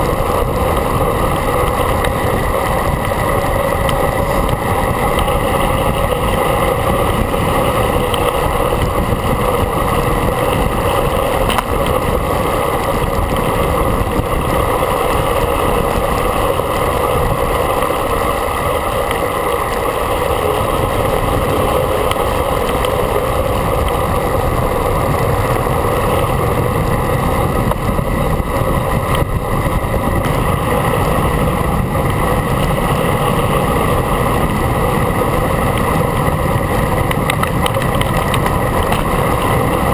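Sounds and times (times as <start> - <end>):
tyre and road noise: 0.0 - 39.9
wind buffeting camera: 0.0 - 39.9.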